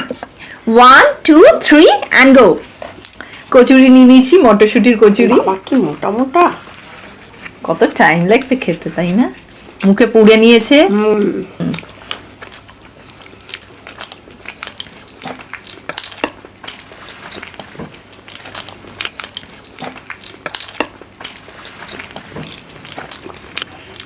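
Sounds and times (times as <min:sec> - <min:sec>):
people chewing crunchy food: 0:02.6 - 0:03.7, 0:05.1 - 0:24.0.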